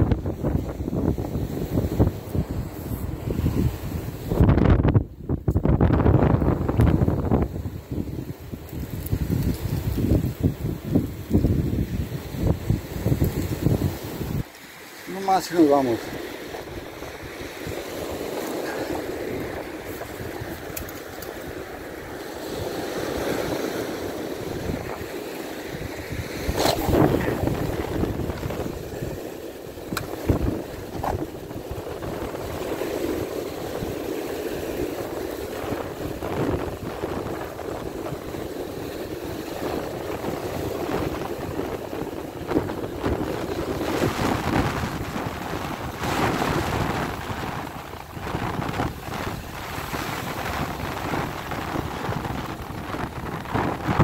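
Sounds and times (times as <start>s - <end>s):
wind buffeting microphone: 0.0s - 14.5s, 15.2s - 54.0s
waves washing over cobbles: 6.0s - 54.0s.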